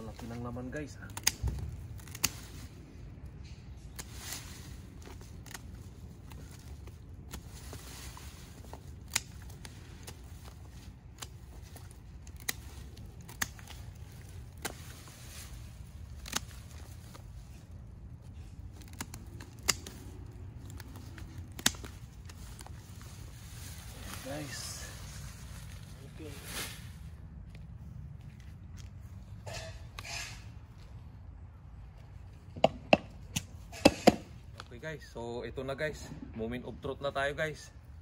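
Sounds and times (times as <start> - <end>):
hands rustling through soil: 0.0 - 32.6
low steady rumble: 0.0 - 38.0.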